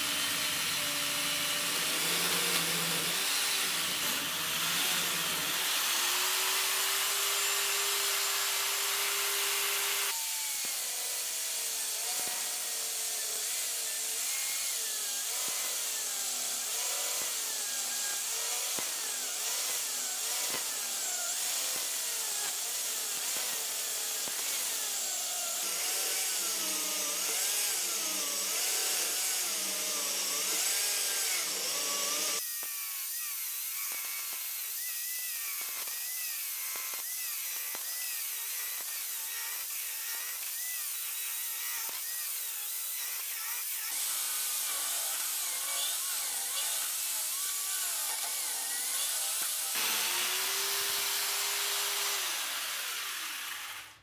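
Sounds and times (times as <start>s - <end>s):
electric chainsaw cutting log: 0.0s - 54.0s.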